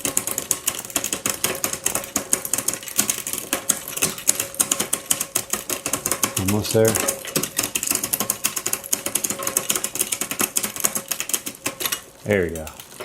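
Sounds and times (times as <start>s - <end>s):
bike chain and cassette clicking: 0.0s - 13.0s.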